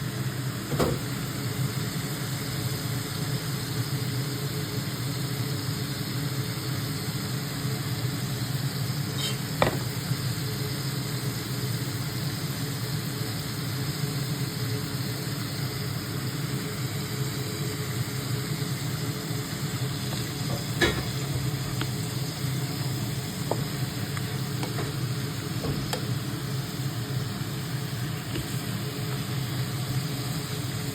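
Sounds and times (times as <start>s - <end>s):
squid sizzling in a pan: 0.1s - 30.9s.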